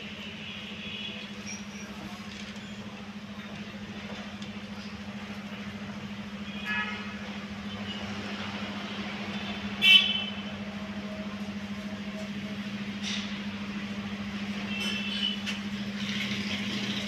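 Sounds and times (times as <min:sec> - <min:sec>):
busy market low hum: 0:00.0 - 0:17.0.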